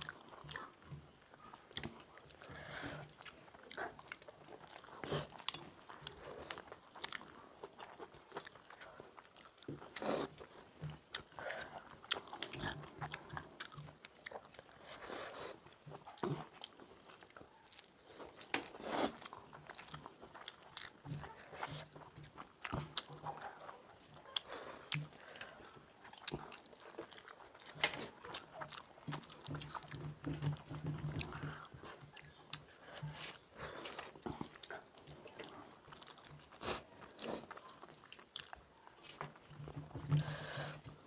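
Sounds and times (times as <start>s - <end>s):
crunchy chewing: 0.0s - 41.0s.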